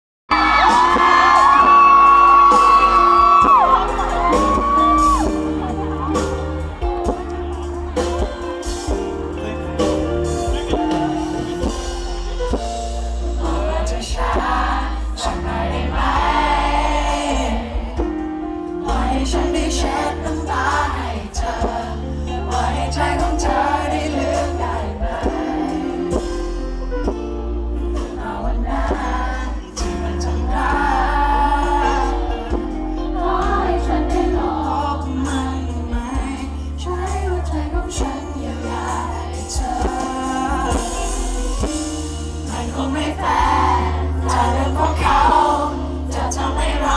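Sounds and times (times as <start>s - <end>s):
band playing with heavy bass: 0.3s - 46.9s
man singing live pop song: 0.3s - 46.9s.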